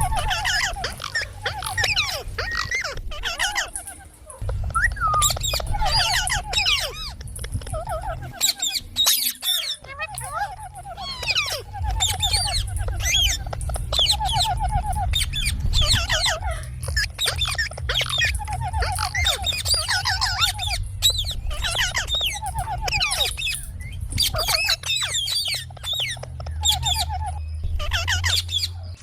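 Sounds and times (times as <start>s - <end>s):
rattling trill: 0.0s - 28.8s
low hum: 0.0s - 29.0s
parrots chirping and squawking: 0.0s - 29.0s.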